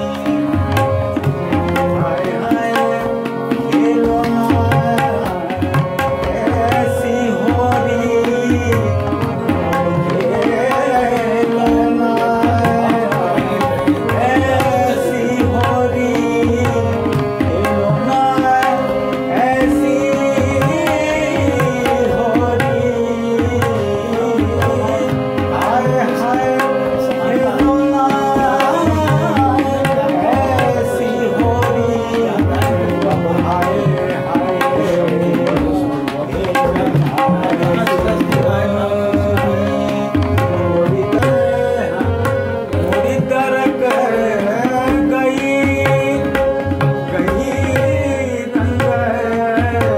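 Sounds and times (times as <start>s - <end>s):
hand drum rhythm: 0.0s - 49.9s
harmonium: 0.0s - 49.9s
man singing: 0.0s - 49.9s.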